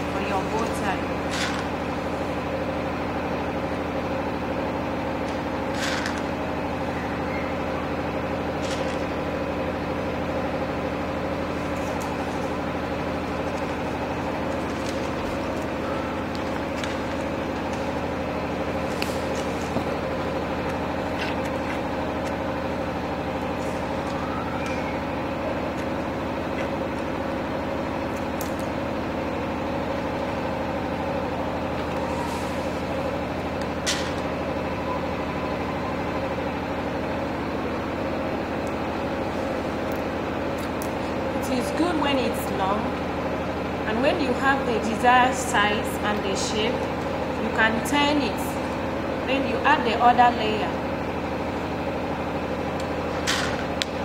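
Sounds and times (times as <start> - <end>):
steady motor hum: 0.0 - 54.0.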